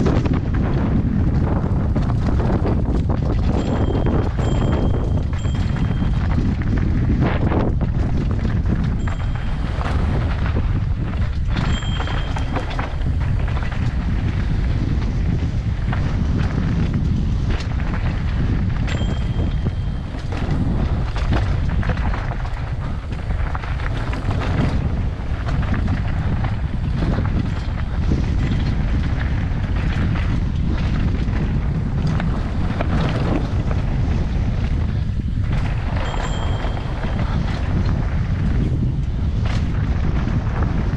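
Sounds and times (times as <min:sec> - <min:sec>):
bike rattling over rocks: 0:00.0 - 0:40.9
wind rush on microphone: 0:00.0 - 0:40.9.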